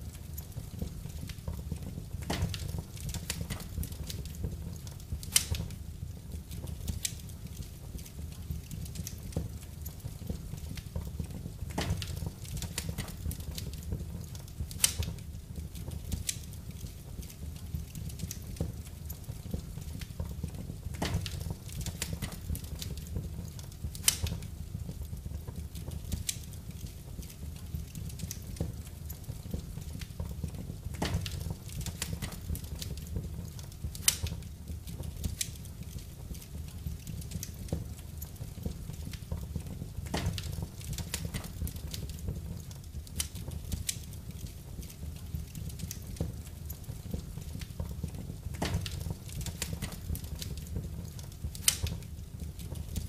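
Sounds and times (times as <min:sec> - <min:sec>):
sharp fire pops: 0:00.0 - 0:53.0
wood fire crackling: 0:00.0 - 0:53.0.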